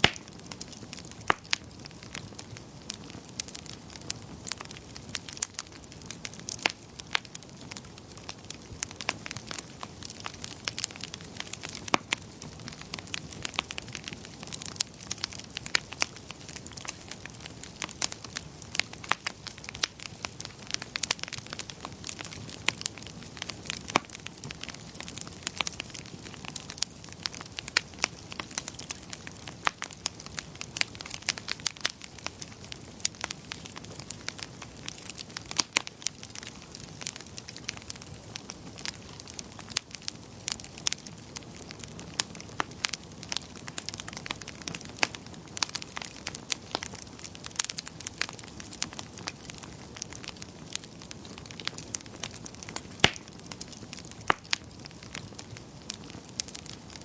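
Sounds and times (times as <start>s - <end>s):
soft hiss of burning: 0.0s - 57.0s
wood fire popping and snapping: 0.0s - 57.0s.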